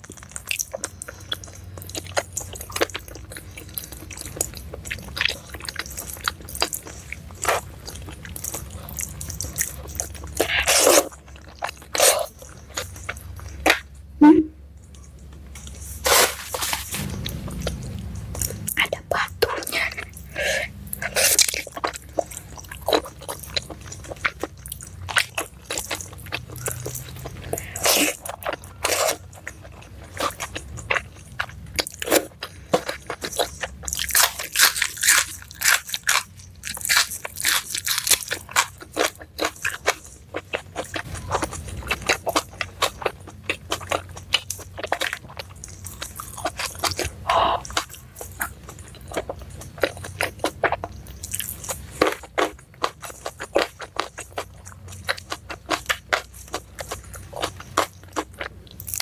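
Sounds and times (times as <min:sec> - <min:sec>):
close chewing with wet smacking: 0:00.0 - 0:14.1, 0:16.6 - 0:59.0.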